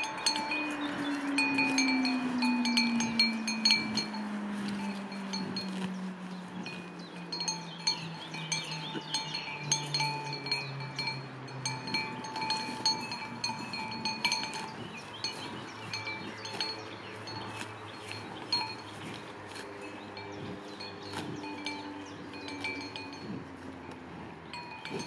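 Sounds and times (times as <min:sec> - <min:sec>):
small bells tinkling: 0:00.0 - 0:05.9, 0:06.6 - 0:23.9, 0:24.5 - 0:25.0.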